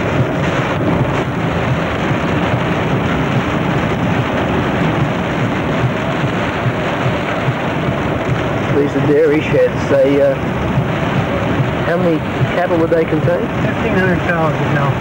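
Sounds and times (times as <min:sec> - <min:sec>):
vehicle driving on wet gravel: 0:00.0 - 0:15.0.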